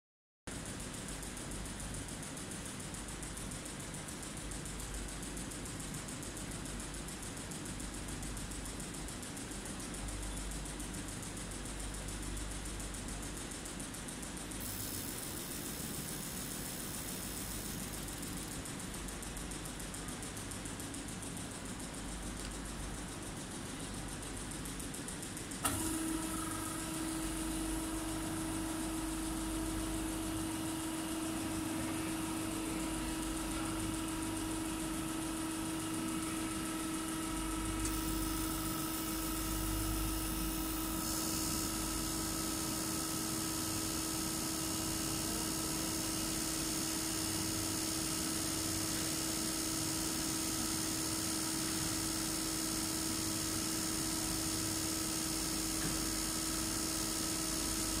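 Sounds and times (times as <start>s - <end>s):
test bench motor humming: 7.7s - 58.0s.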